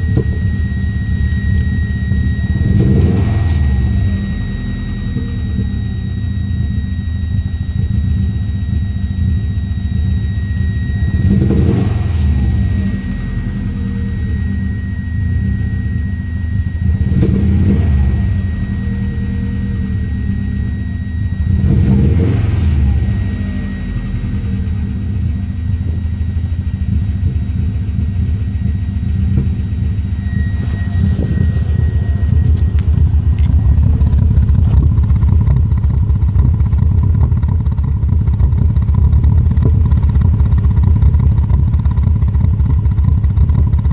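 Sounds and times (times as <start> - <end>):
car engine idling and revving: 0.0 - 43.9
high whine: 0.0 - 43.9.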